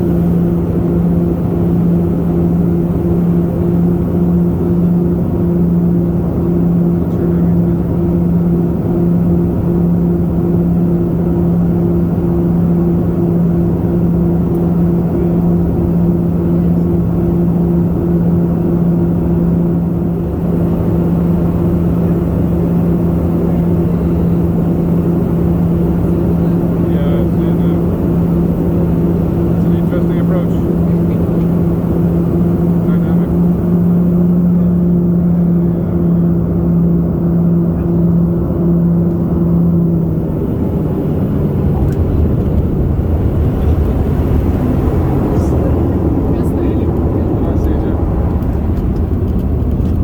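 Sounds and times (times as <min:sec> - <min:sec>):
propeller plane engines droning: 0:00.0 - 0:50.0.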